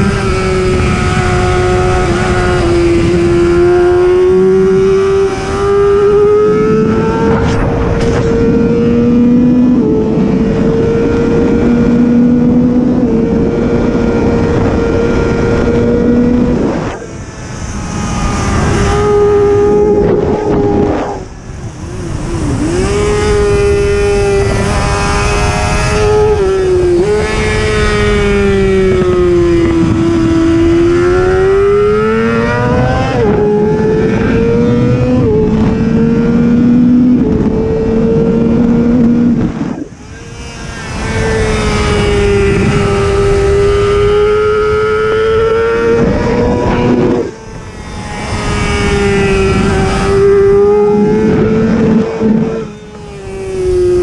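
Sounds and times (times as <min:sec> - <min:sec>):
motorbike engine at high revs: 0:00.0 - 0:54.0
wind noise: 0:00.0 - 0:54.0.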